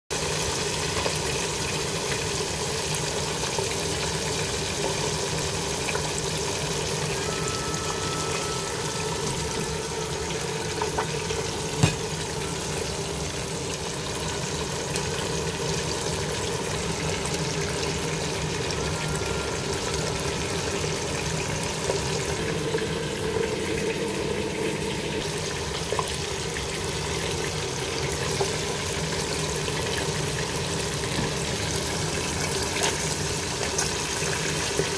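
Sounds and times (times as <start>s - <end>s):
fish sizzling in hot oil: 0.2s - 34.9s.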